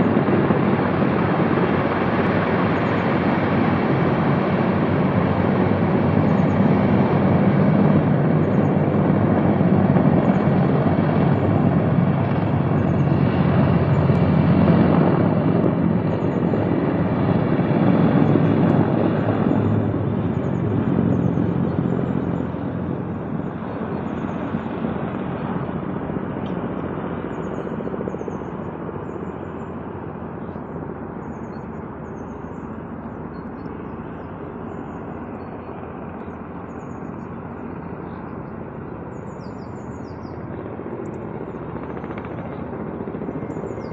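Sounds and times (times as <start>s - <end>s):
helicopter flying past: 0.0s - 43.9s.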